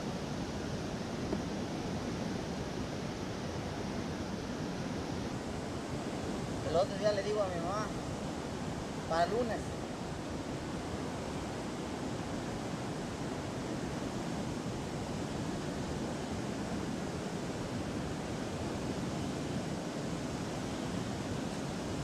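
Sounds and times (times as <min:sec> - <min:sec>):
water rushing over dam spillway: 0:00.0 - 0:22.0.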